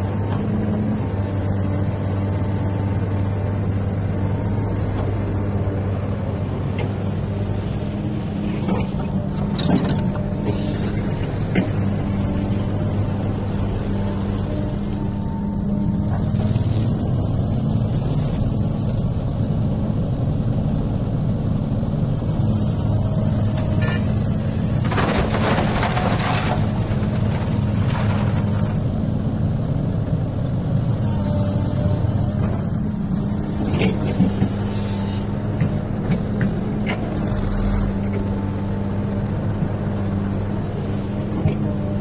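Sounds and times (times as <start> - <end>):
excavator diesel engine: 0.0 - 42.0.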